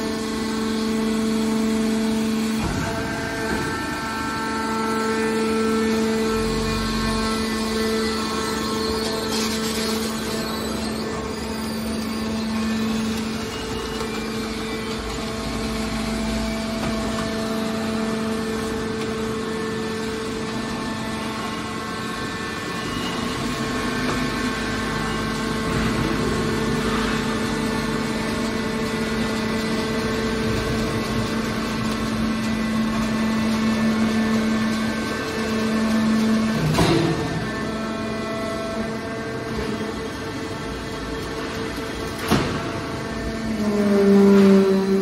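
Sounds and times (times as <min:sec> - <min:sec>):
hydraulic pump motor humming: 0:00.0 - 0:45.0.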